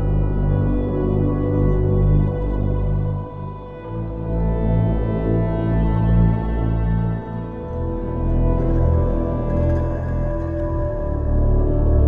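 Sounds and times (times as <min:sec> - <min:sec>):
ambient music with held tones: 0:00.0 - 0:12.0
deep low drone: 0:00.0 - 0:12.0.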